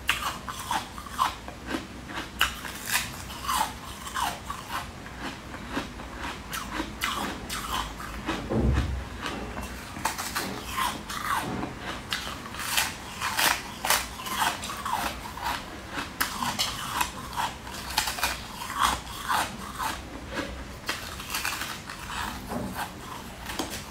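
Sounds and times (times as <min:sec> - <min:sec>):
crunchy chewing of ice: 0:00.0 - 0:23.9.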